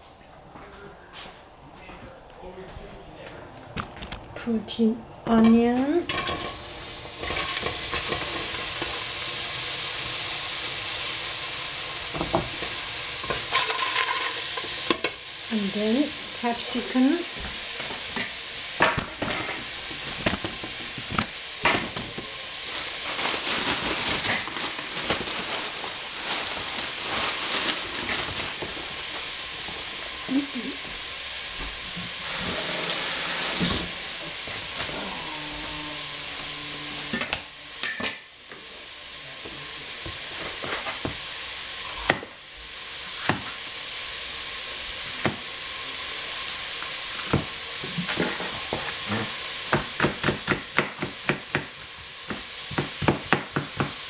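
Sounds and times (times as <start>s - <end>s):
onion sizzling in a pan: 4.8s - 54.0s.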